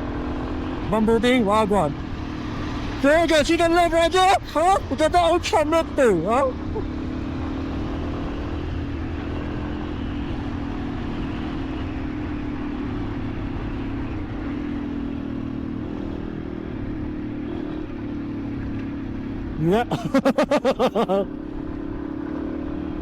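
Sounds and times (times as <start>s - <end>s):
road and wind noise: 0.0s - 23.0s
motorcycle engine running: 4.4s - 23.0s.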